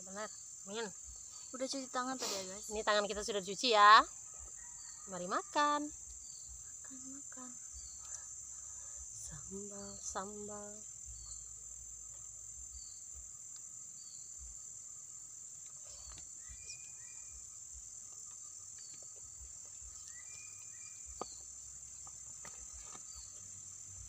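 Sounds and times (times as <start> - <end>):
high-pitched insect chorus: 0.0 - 24.0
short insect chirps: 0.0 - 24.0.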